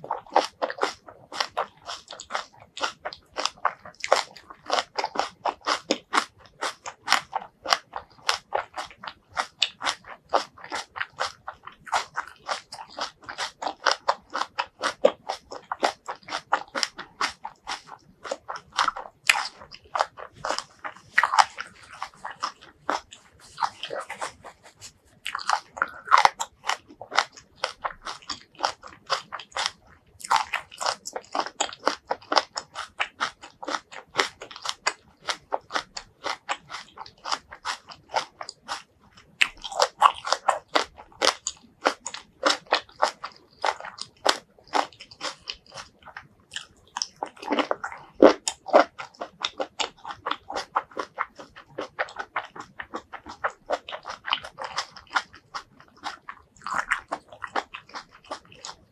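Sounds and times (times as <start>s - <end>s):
chewing and crunching vegetables: 0.0s - 58.9s.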